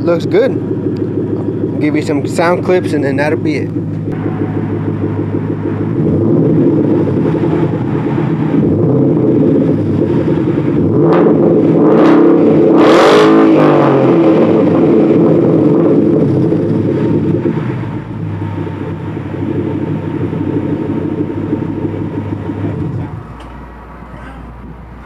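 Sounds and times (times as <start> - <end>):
car engine revving and idling: 0.0 - 25.0.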